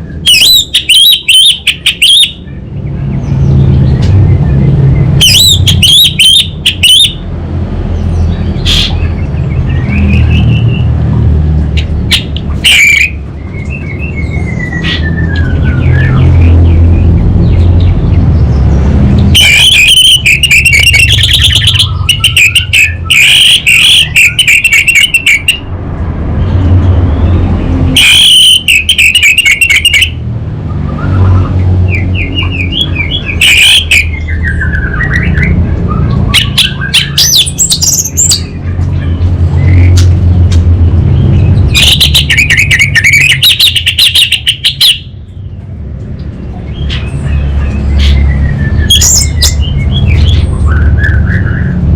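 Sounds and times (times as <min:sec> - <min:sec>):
bird singing crackling chatter: 0:00.0 - 0:07.3, 0:11.7 - 0:25.7, 0:26.5 - 0:30.2, 0:30.9 - 0:40.4, 0:41.1 - 0:51.9.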